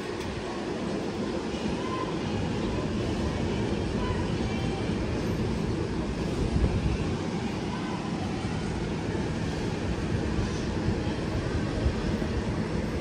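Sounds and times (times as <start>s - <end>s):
subway train low rumble: 0.0s - 13.0s.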